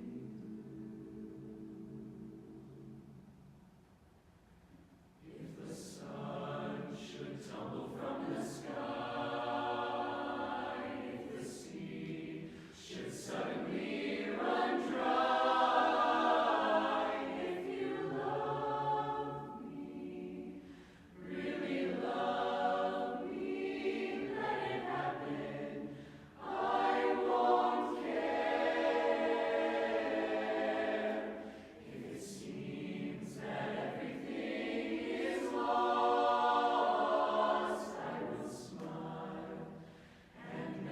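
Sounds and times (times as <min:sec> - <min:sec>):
chorus singing a cappella: 0:00.0 - 0:03.4, 0:05.2 - 0:40.9.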